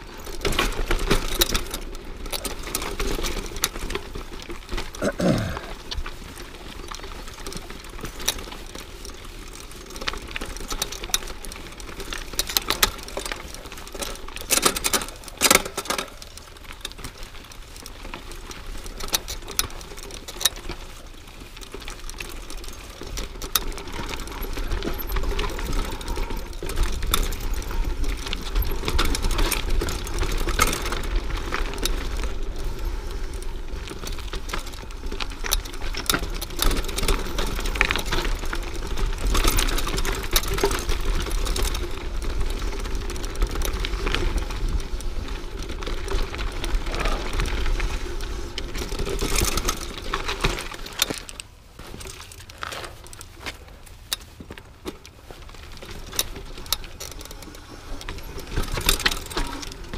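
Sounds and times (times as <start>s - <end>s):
bike clicking and rattling: 0.0s - 59.9s
bike tyres crunching on dirt: 0.0s - 59.9s.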